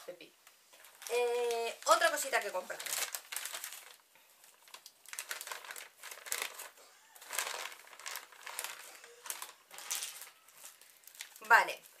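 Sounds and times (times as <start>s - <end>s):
crinkly packaging rustling: 0.7s - 12.0s.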